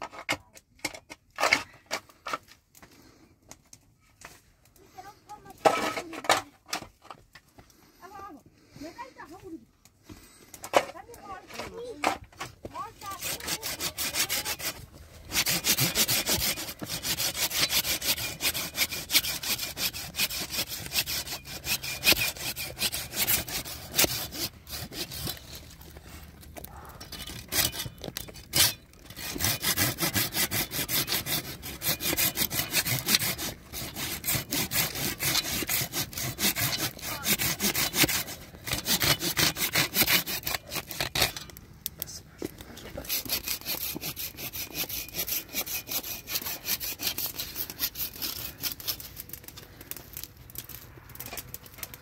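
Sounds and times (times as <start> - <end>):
hand saw cutting wood: 0.0 - 2.5, 5.0 - 7.2, 10.6 - 41.6, 42.4 - 52.0.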